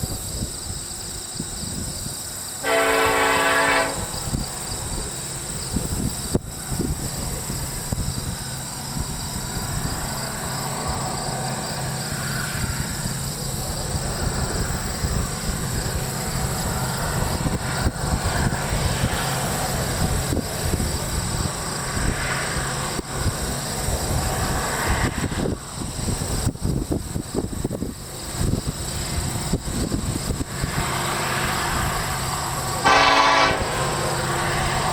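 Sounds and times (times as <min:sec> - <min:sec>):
diesel locomotive engine rumble: 0:00.0 - 0:34.9
insects buzzing: 0:00.0 - 0:34.9.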